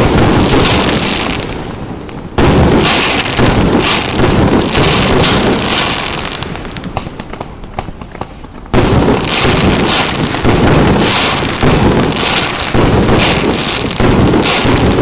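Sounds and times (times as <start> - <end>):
fireworks crackling: 0.0 - 15.0
loud firework shots: 0.0 - 15.0.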